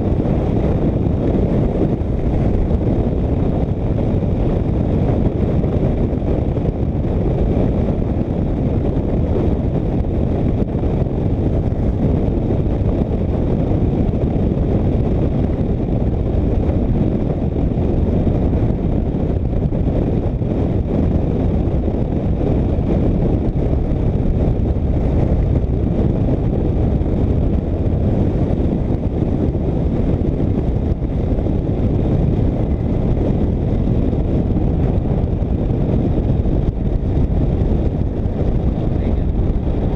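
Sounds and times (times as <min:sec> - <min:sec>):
road noise: 0:00.0 - 0:39.9
wind rush on microphone: 0:00.0 - 0:39.9.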